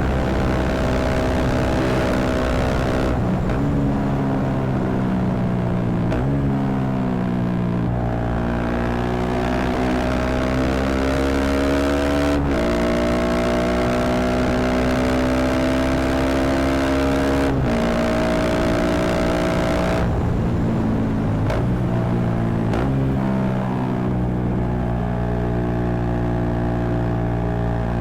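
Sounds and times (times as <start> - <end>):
motorcycle engine through gears: 0.0 - 28.0.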